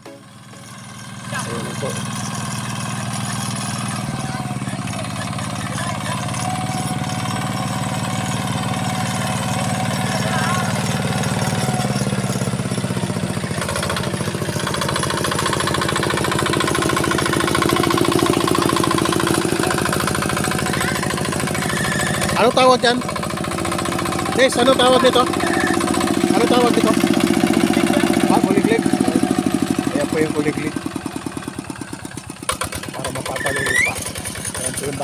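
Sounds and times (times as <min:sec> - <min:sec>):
diesel engine chugging: 0:00.0 - 0:35.0.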